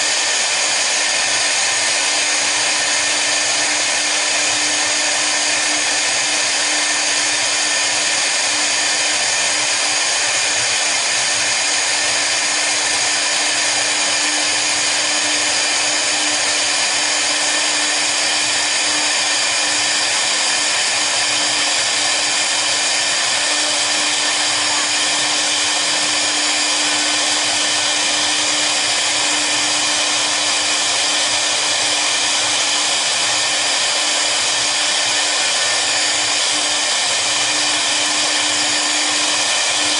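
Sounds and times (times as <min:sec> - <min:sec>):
cnc router whine and hiss: 0:00.0 - 0:39.9.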